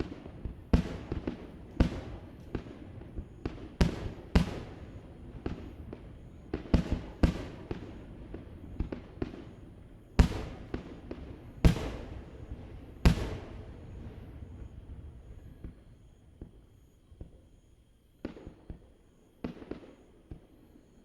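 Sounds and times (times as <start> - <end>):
fireworks bursting with echo: 0.0 - 21.0
small firework pops: 0.0 - 21.0.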